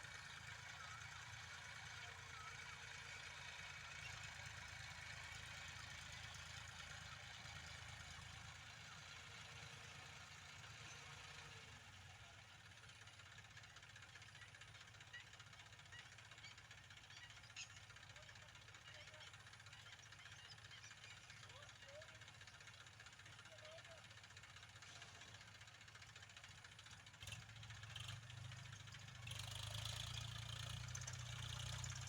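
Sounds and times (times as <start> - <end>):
faint tractor diesel engine: 0.0 - 32.0.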